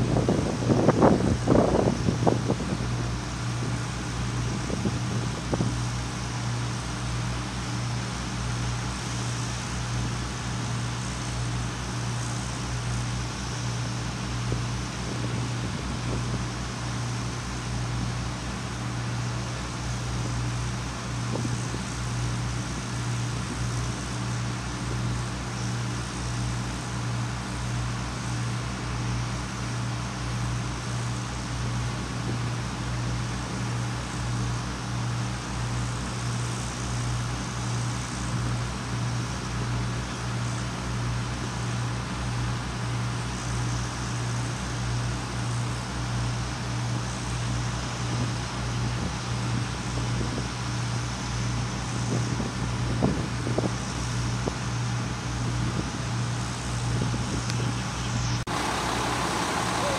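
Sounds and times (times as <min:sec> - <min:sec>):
large engine running steadily: 0:00.0 - 0:59.9.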